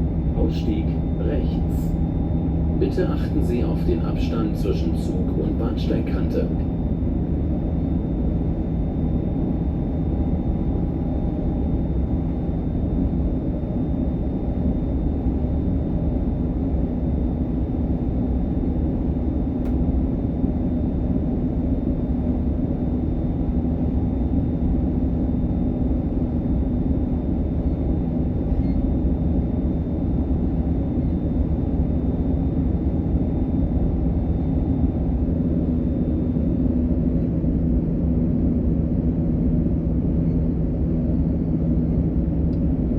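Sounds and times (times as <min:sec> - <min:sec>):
train rumble inside carriage: 0:00.0 - 0:42.9.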